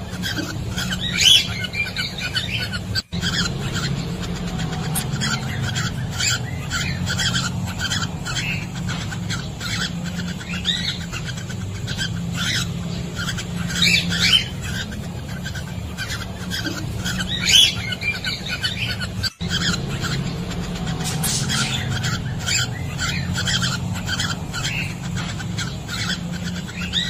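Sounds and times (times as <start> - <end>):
cockatiels chirping: 0.0 - 27.0
steady low hum: 0.0 - 27.0.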